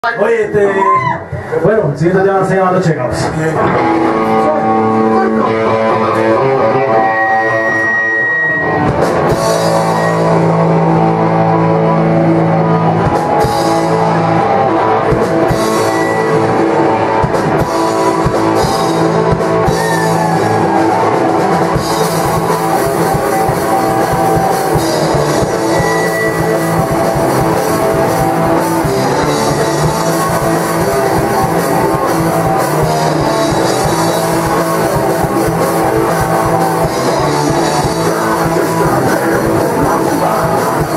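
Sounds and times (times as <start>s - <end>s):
rock band playing loud: 0.0s - 40.9s
electric guitar ringing: 2.8s - 40.9s.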